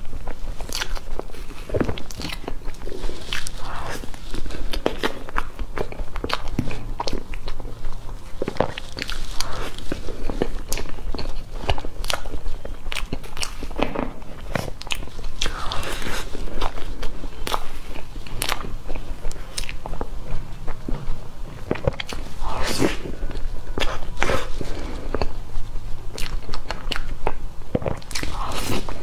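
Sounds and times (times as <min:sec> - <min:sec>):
soft wet chewing: 0:00.0 - 0:29.0.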